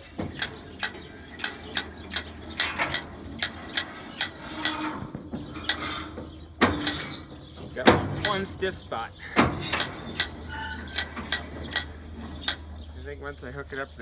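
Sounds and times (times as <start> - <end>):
baler mechanism clicking and clacking: 0.0 - 14.0.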